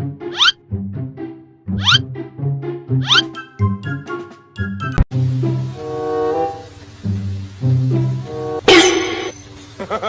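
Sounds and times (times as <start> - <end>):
background music with held notes: 0.0 - 9.9.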